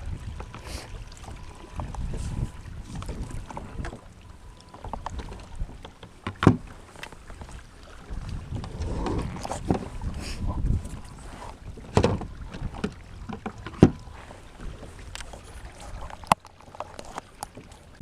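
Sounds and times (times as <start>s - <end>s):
wind rumble on microphone: 0.0s - 16.4s.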